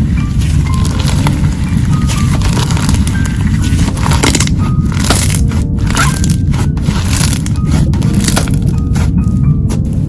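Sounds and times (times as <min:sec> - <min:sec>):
dense low rumble: 0:00.0 - 0:10.0.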